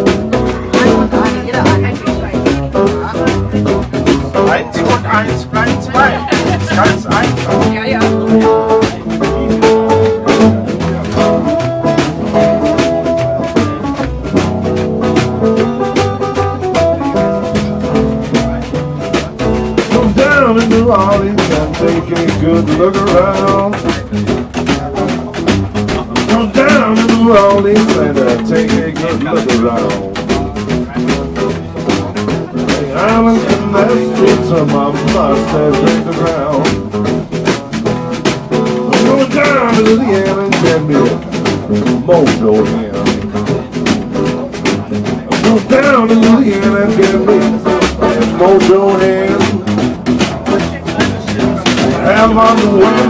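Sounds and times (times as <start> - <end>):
blues band playing: 0.0 - 53.0.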